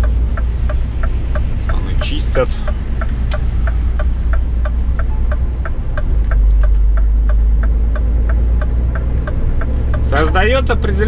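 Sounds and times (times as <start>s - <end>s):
truck diesel engine drone: 0.0s - 11.0s
turn signal ticking: 0.0s - 11.0s.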